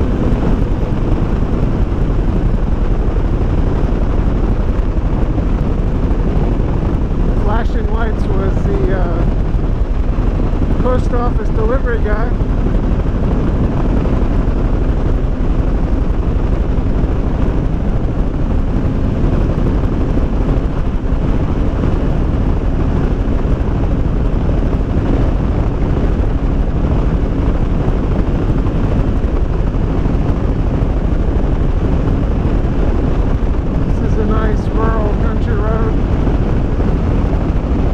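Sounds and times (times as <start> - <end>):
motorcycle engine running: 0.0 - 37.9
wind rushing over microphone: 0.0 - 37.9.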